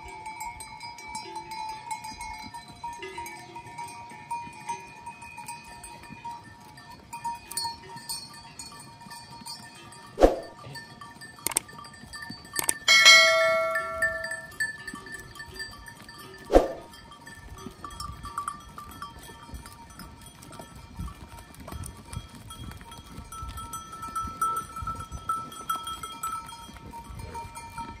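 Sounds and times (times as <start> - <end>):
goat bells ringing: 0.0 - 28.0.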